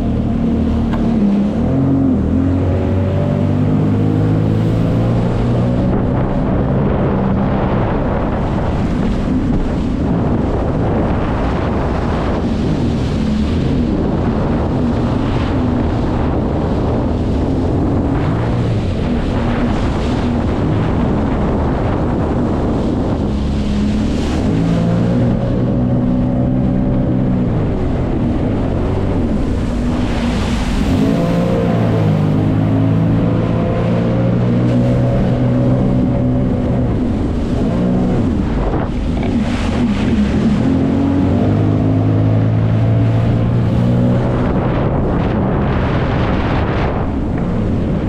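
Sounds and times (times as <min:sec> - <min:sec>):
jet ski engine running: 0:00.0 - 0:48.0
water rushing: 0:00.0 - 0:48.0
wind buffeting microphone: 0:00.0 - 0:48.0.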